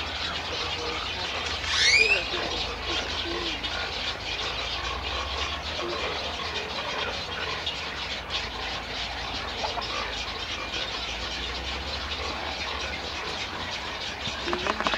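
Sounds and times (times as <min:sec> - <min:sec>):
many birds calling: 0:00.0 - 0:14.9.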